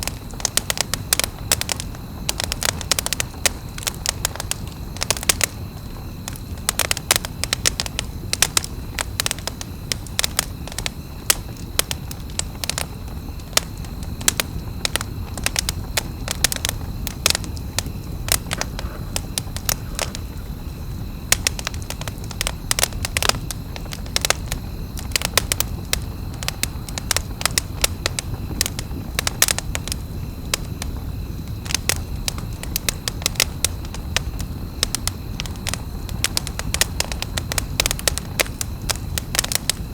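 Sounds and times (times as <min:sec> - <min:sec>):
campfire crackling: 0:00.0 - 0:39.9
low rush of fire: 0:00.0 - 0:39.9
sharp pops and cracks: 0:00.0 - 0:39.9.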